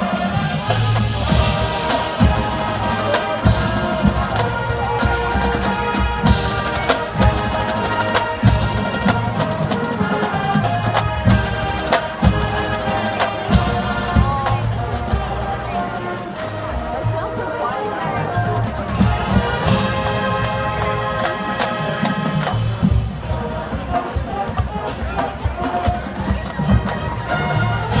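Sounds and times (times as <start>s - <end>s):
brass holding notes: 0.0s - 28.0s
drumline and percussion: 0.0s - 28.0s.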